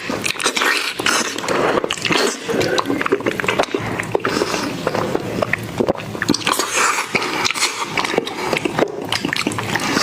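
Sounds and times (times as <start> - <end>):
crackling mouth and food clicks: 0.0 - 10.0
wet chewing and biting: 0.0 - 10.0.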